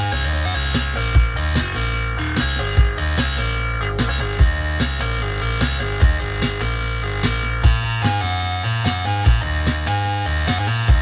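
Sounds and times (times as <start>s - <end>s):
synthesizer music: 0.0s - 11.0s.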